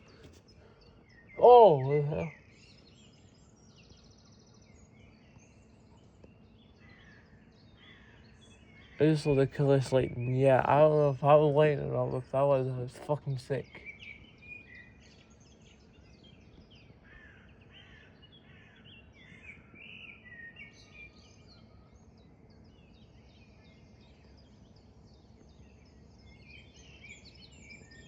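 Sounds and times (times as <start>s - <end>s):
birds chirping and warbling: 0.0s - 28.0s.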